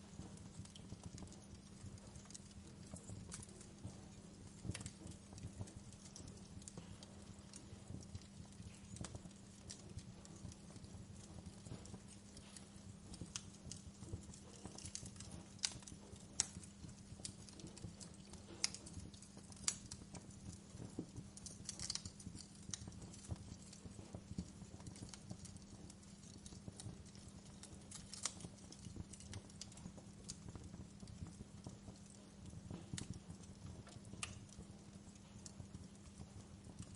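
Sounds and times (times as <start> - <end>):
fire crackling: 0.0 - 36.9.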